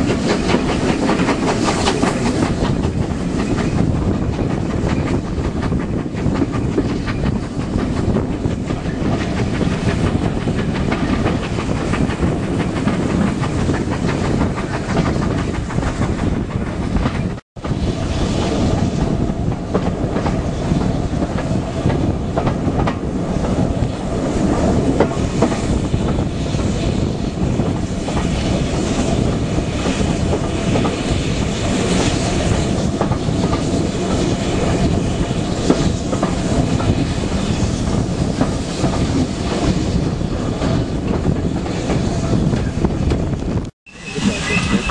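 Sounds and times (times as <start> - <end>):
clickety-clack over rail joints: 0.0 - 44.9
train wheels rumbling on rails: 0.0 - 44.9.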